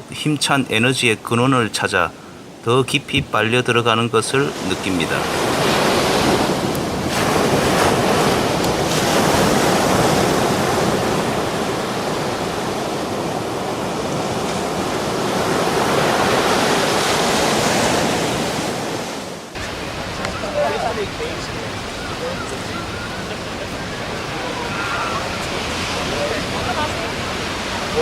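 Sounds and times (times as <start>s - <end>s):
waves breaking: 0.0s - 28.0s.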